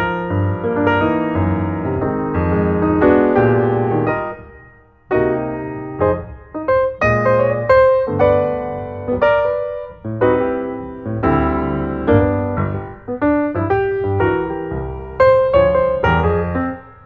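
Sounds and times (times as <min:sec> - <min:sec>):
piano melody over chords: 0:00.0 - 0:17.0.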